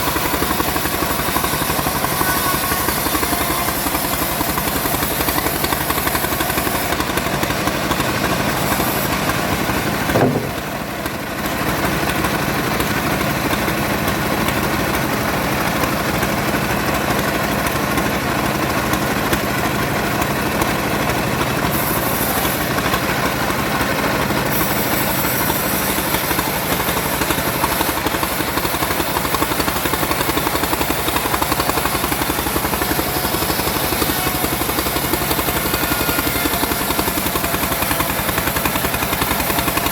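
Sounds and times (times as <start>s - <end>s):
chainsaw cutting wood: 0.0s - 15.1s, 16.0s - 39.9s.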